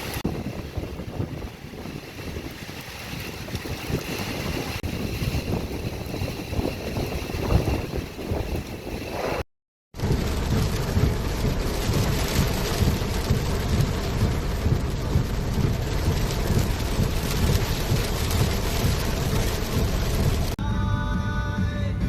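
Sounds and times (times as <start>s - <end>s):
heavy rain pouring: 0.0s - 9.4s, 10.0s - 20.6s
low thunder rumble: 0.0s - 9.4s, 10.0s - 20.6s.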